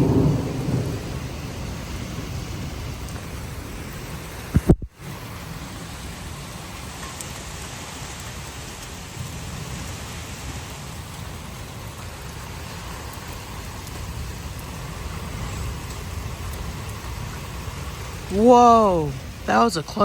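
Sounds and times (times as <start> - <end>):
heavy rain falling: 0.0 - 20.0
wind rumbling on microphone: 0.0 - 20.0.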